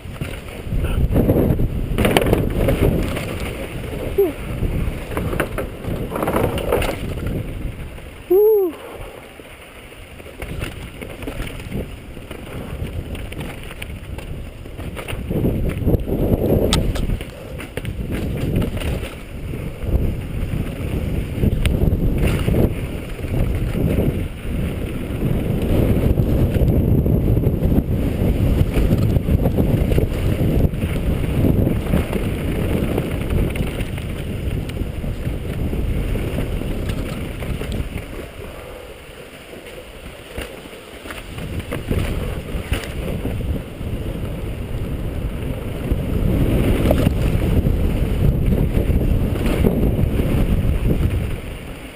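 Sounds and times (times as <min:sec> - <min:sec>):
wind buffeting microphone: 0:00.0 - 0:09.4, 0:10.0 - 0:51.9
bike rattling over rough ground: 0:00.0 - 0:51.9.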